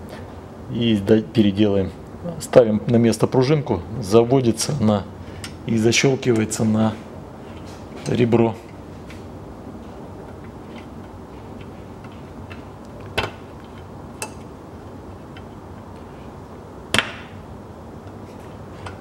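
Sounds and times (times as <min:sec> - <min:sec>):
low background noise: 0:00.0 - 0:19.0.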